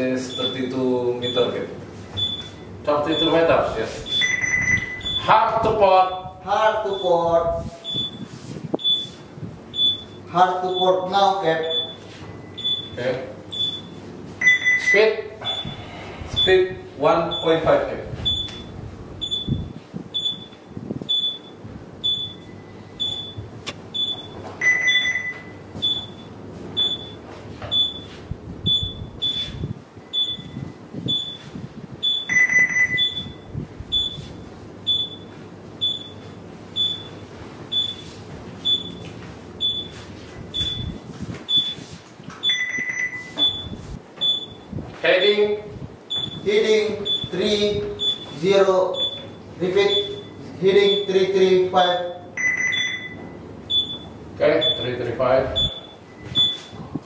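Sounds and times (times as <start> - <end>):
longer lower alarm beep: 0.3 - 0.6, 1.2 - 1.6, 2.2 - 3.4, 4.1 - 5.4, 6.9 - 7.2, 7.8 - 11.0, 11.6 - 15.8, 16.4 - 17.6, 18.2 - 23.4, 24.0 - 38.0, 38.6 - 39.0, 39.6 - 41.8, 42.4 - 45.4, 46.1 - 51.4, 52.4 - 56.8
short high alarm beeps: 0.3 - 0.6, 2.2 - 3.4, 4.0 - 5.4, 6.9 - 7.2, 7.8 - 11.0, 11.6 - 15.8, 16.4 - 16.7, 17.3 - 17.6, 18.2 - 23.4, 24.0 - 39.0, 39.6 - 41.8, 42.4 - 45.4, 46.1 - 51.4, 52.4 - 56.8.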